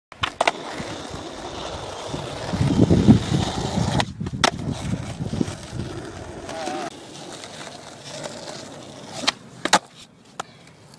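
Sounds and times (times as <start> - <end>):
skateboard wheels rolling on asphalt: 0.1 - 10.4.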